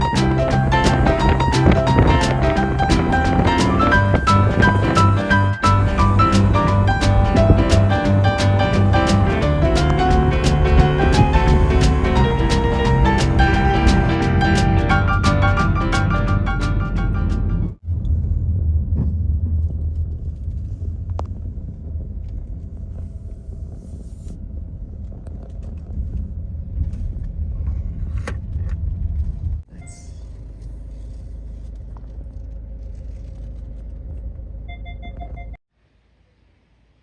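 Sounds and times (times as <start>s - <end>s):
car rumbling on the move: 0.0s - 35.6s.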